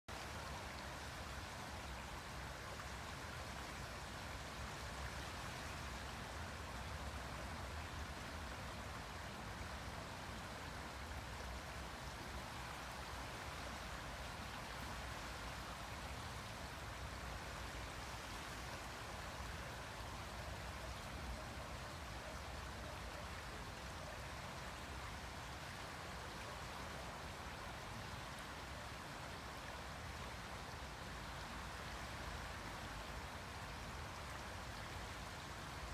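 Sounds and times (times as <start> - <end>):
river water flowing: 0.1 - 35.9.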